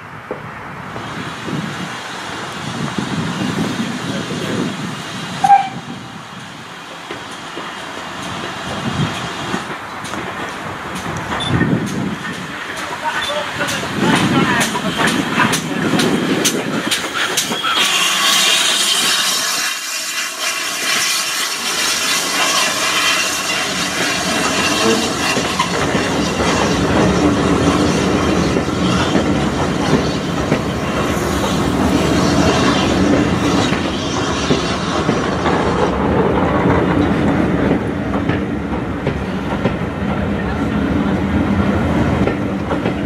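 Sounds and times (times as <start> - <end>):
train coaches rumbling past: 0.0 - 43.0.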